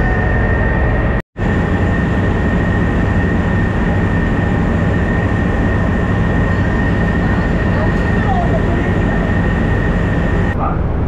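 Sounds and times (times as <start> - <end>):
high whine: 0.0 - 10.8
boat engine rumbling: 0.0 - 11.0.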